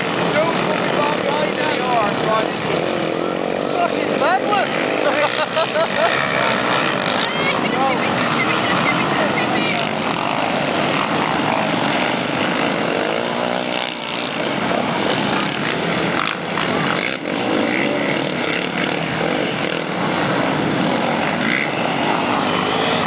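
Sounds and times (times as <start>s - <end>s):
quad bike engines revving: 0.0s - 23.0s.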